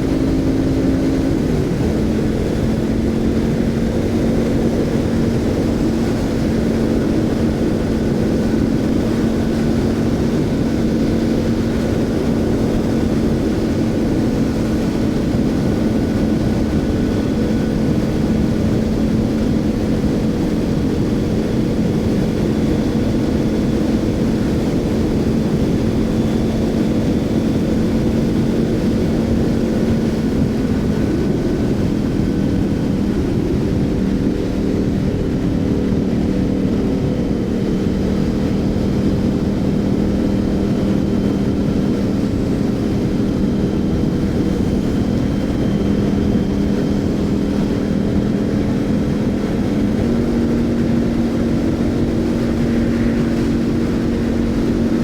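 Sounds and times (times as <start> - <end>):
motorcycle engine drone: 0.0 - 55.0
wind rush: 0.0 - 55.0.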